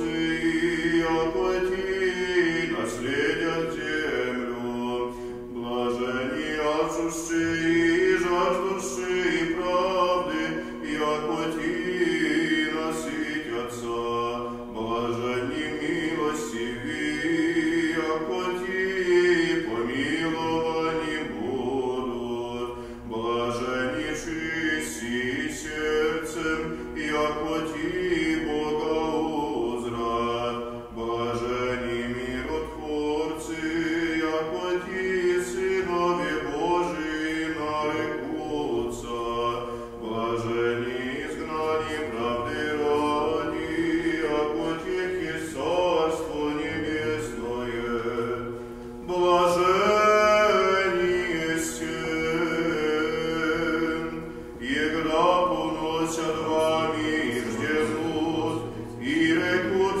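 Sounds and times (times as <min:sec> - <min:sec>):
men singing chant: 0:00.0 - 1:00.0.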